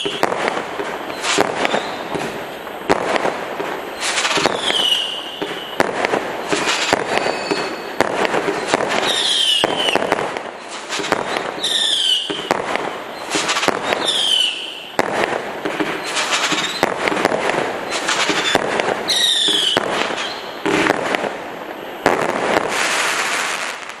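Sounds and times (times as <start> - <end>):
falling firework whistles: 0.0 - 24.0
fireworks bangs and crackles: 0.0 - 24.0.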